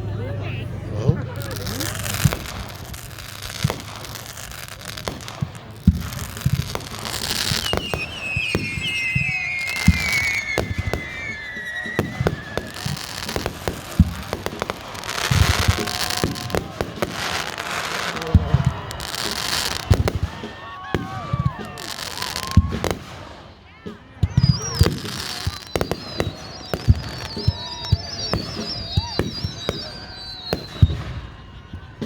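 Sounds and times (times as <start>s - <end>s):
firework bangs and crackling: 0.5s - 32.0s
firework whistles falling in pitch: 1.6s - 23.6s, 24.2s - 32.0s.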